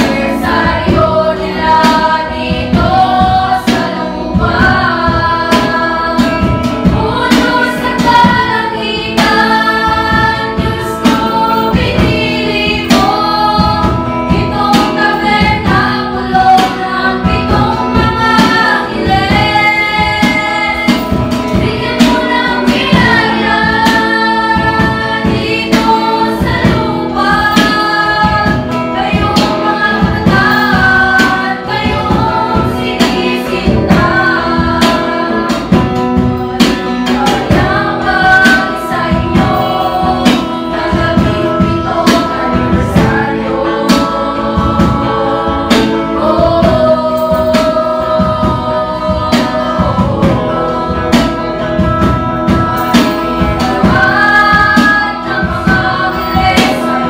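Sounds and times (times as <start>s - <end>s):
choir singing a hymn: 0.0s - 57.0s
strummed guitar: 0.0s - 57.0s.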